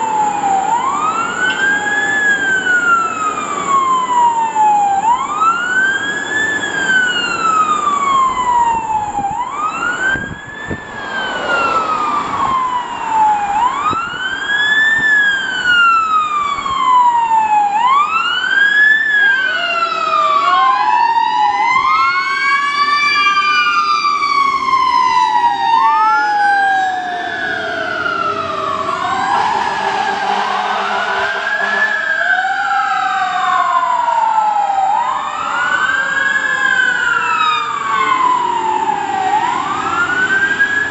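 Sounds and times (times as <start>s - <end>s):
fire engine siren wailing: 0.0s - 40.9s
second siren slow sweep: 0.0s - 40.9s.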